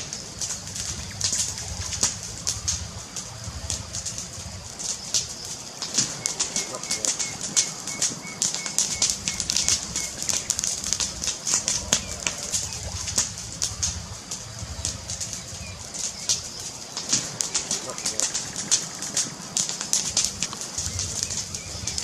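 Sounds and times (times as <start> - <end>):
fire crackling and popping: 0.0 - 22.0
low fire rumble: 0.0 - 22.0.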